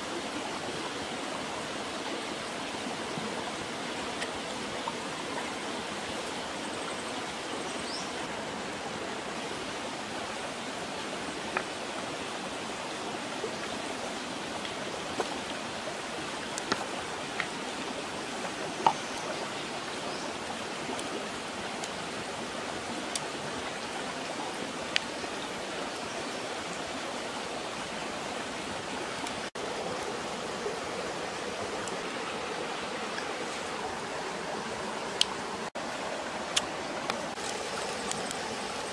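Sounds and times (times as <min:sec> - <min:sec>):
river running over rocks: 0:00.0 - 0:38.9.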